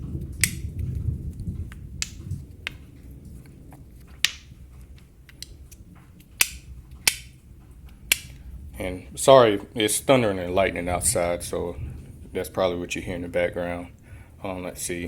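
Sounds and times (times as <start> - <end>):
low rumble of thunder: 0.0 - 15.0.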